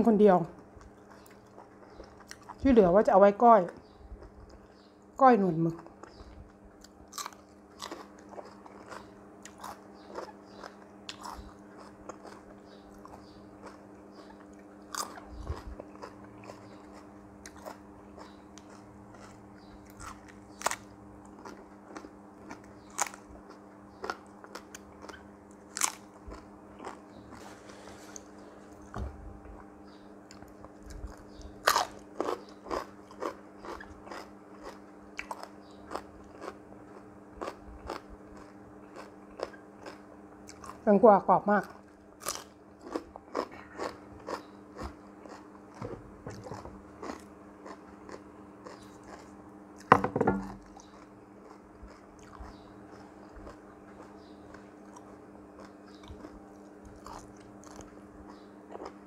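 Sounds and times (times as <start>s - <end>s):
crunching and chewing food: 0.0s - 59.0s.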